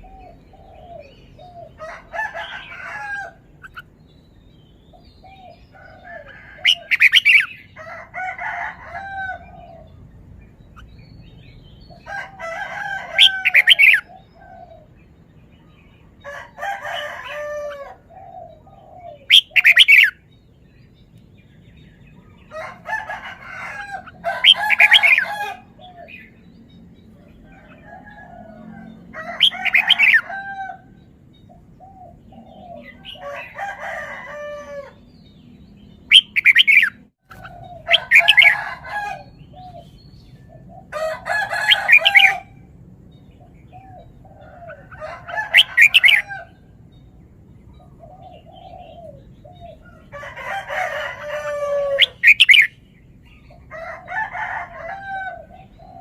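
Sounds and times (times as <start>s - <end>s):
bird warbling song: 0.0s - 53.7s, 54.4s - 56.0s.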